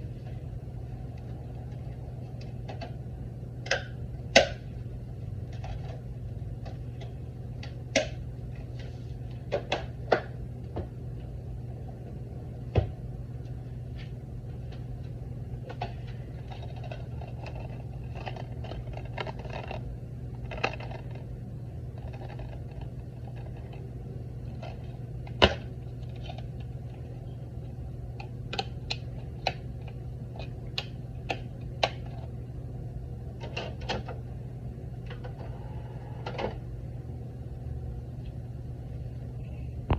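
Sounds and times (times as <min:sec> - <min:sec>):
disc player low hum: 0:00.0 - 0:39.9.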